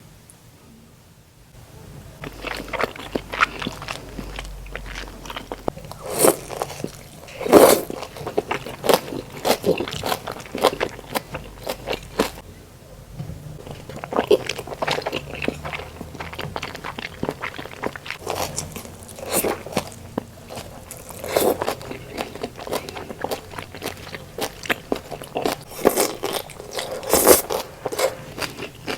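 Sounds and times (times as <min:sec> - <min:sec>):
wet chewing mouth clicks: 0:02.2 - 0:12.4, 0:13.6 - 0:28.9.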